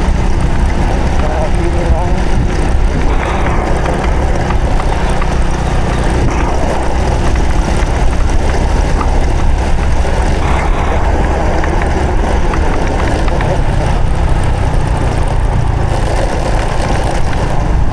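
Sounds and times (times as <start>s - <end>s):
motorcycle engine running: 0.0s - 17.9s
road noise: 0.0s - 17.9s
wind noise: 0.0s - 17.9s.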